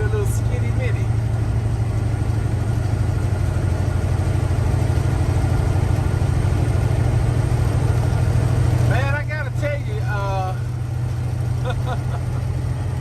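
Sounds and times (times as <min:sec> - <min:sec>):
road noise: 0:00.0 - 0:13.0
truck diesel engine running: 0:00.0 - 0:13.0.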